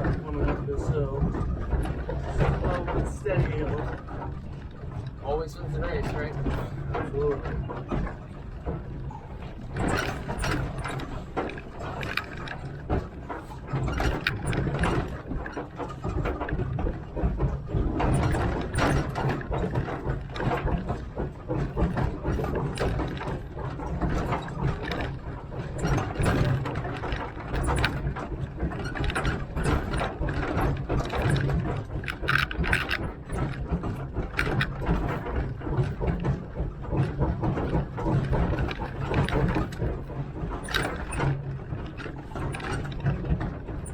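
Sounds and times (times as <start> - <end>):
mechanical clanking: 0.0 - 43.9.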